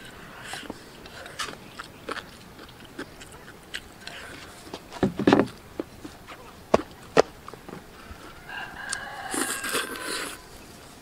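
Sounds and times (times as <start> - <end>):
person chewing and biting: 0.0 - 4.7, 5.5 - 10.4.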